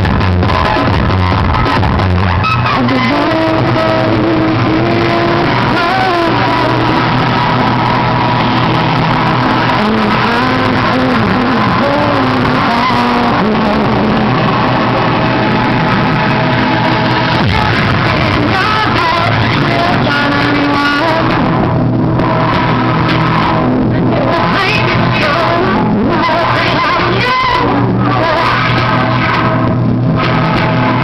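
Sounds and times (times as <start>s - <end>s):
loud music from car stereo: 0.0s - 31.0s.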